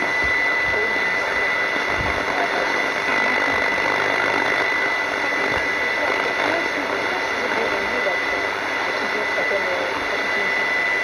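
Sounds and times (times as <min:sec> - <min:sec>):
faint radio voice: 0:00.0 - 0:10.8
radio static hiss: 0:00.0 - 0:11.0.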